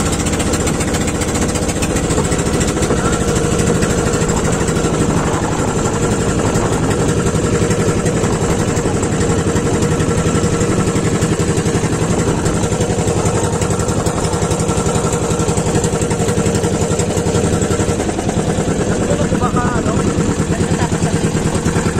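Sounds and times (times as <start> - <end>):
boat engine running: 0.0 - 21.9.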